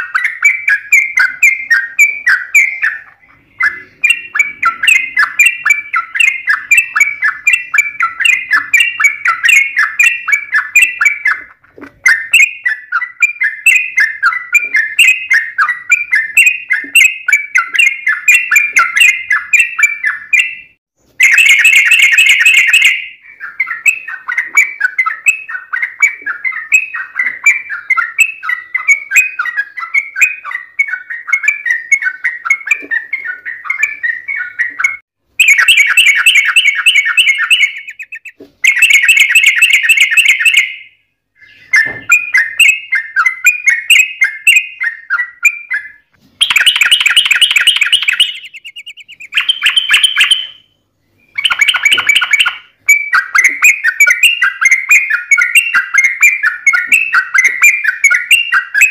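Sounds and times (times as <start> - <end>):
bird chattering song: 0.0 - 58.9.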